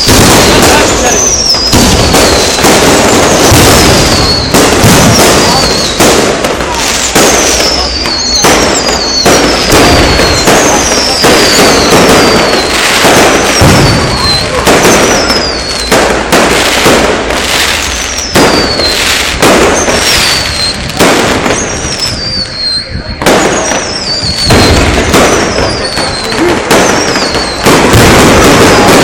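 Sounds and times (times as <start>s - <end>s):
falling firework whistle: 0.0s - 29.0s
fireworks bangs: 0.0s - 29.0s.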